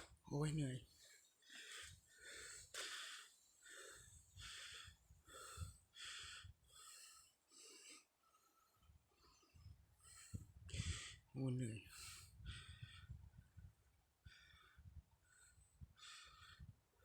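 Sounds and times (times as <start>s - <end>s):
person breathing hard: 0.8s - 11.3s, 11.9s - 17.0s.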